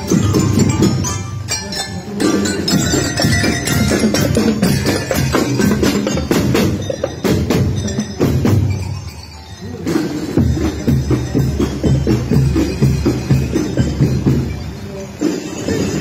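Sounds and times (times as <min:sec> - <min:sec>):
marching drums beating: 0:00.0 - 0:01.6, 0:02.2 - 0:16.0
bell lyres ringing a tune: 0:00.0 - 0:16.0.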